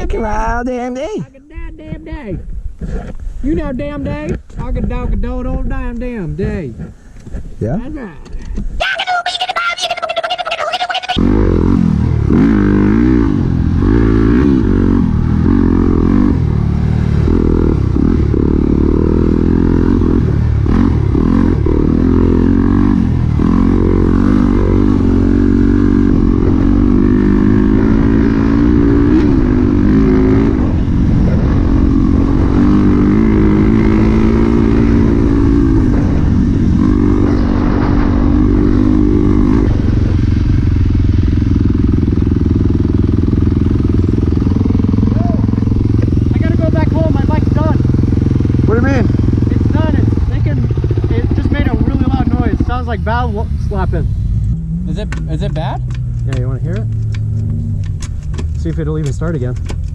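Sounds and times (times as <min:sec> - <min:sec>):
dirt bike engine running hard: 0:11.2 - 0:59.9.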